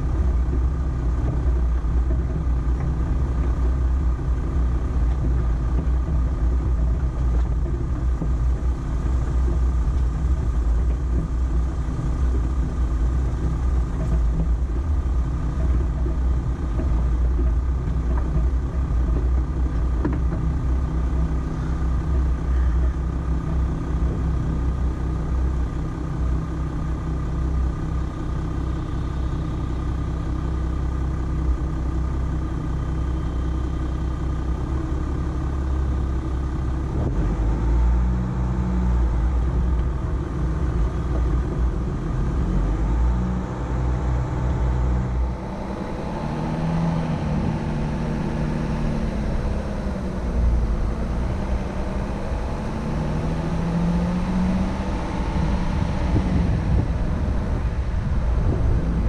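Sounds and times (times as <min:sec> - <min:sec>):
low engine rumble: 0:00.0 - 0:59.0.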